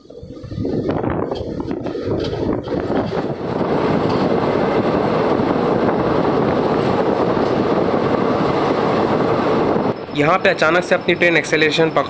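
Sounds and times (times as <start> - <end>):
rushing air: 0.0 - 12.0
train wheels rolling on rails: 0.0 - 12.0.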